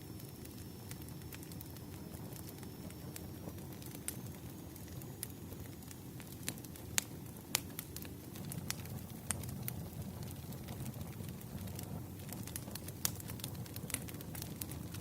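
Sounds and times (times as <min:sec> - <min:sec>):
low fire rumble: 0:00.0 - 0:15.0
wood fire pops and snaps: 0:00.2 - 0:15.0.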